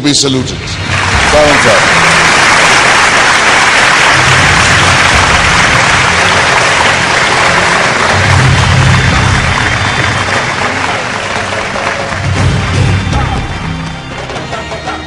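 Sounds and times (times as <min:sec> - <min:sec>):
audience applauding: 0:00.6 - 0:14.6.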